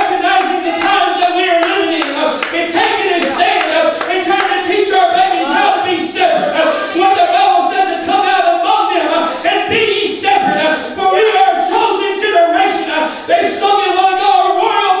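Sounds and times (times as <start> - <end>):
man preaching into microphone: 0.0 - 15.0.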